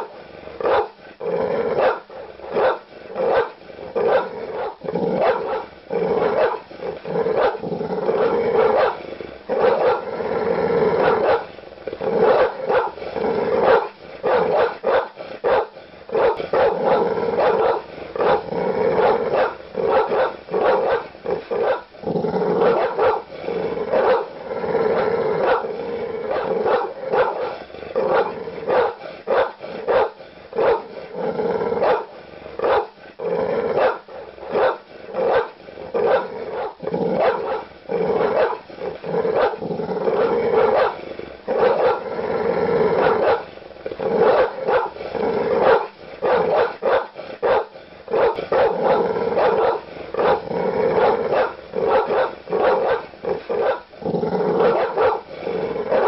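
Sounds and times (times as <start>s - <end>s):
large dog barking aggressively: 0.0s - 56.0s.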